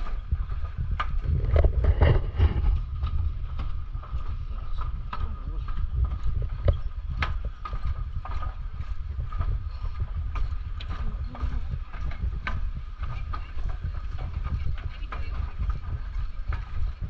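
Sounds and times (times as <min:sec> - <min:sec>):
footsteps on wooden deck: 0:00.0 - 0:17.0
steady low rumble: 0:00.0 - 0:17.0.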